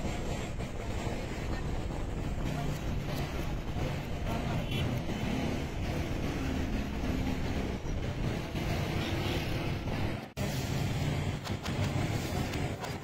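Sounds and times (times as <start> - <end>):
busy street traffic: 0.0 - 13.0.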